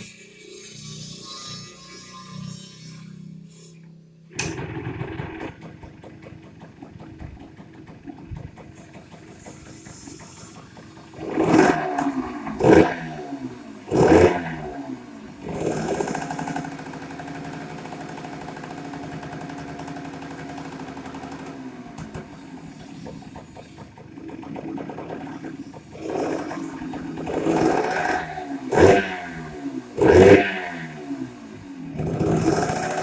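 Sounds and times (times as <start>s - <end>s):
two-stroke motorcycle engine revving: 4.3s - 33.0s.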